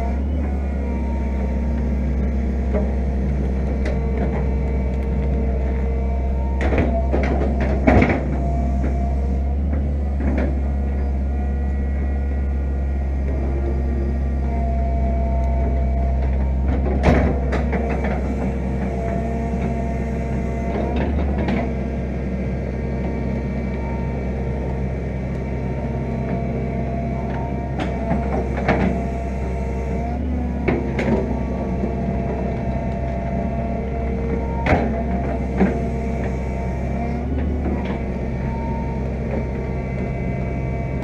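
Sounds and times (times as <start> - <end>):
excavator diesel engine humming: 0.0 - 41.0
hydraulic whine: 0.0 - 41.0.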